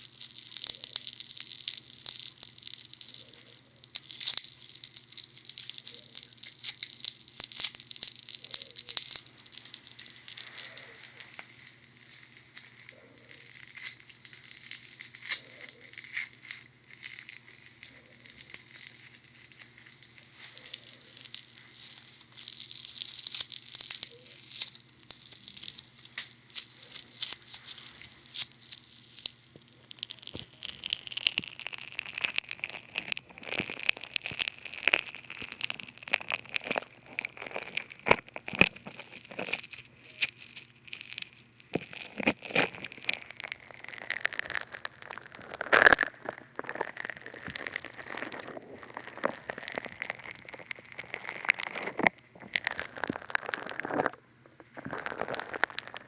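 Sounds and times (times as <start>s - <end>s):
bath foam crackling and fizzing: 0.0s - 56.0s.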